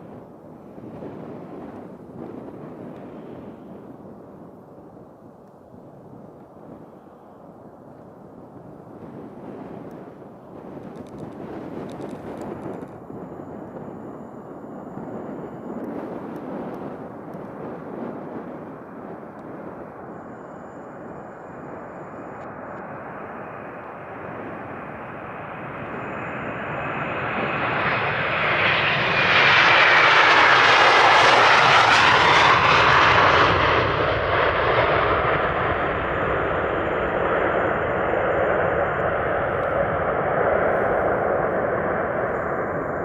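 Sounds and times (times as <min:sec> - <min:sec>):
jet engines at take-off power: 0:00.0 - 0:43.0.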